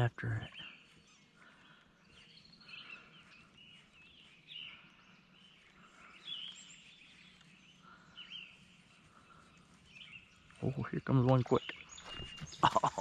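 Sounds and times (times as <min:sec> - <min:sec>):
bird chirps and warbles: 0:00.0 - 0:13.0.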